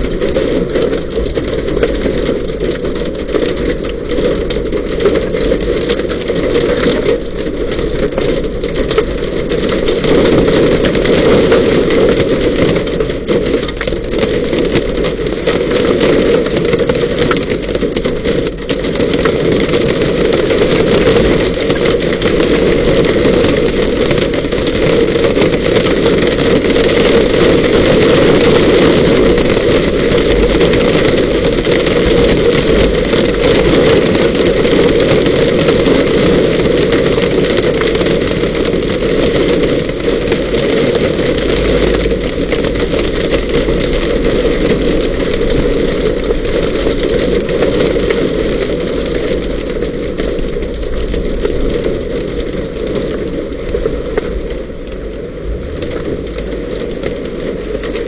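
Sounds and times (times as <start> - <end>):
rain and hail on a car: 0.0 - 58.0.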